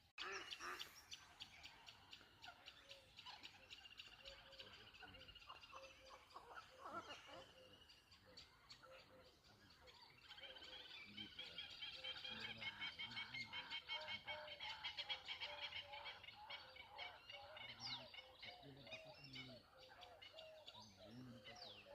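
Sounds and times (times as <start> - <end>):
birds chirping chorus: 0.0 - 21.9
lower repeated bird calls: 0.0 - 21.9.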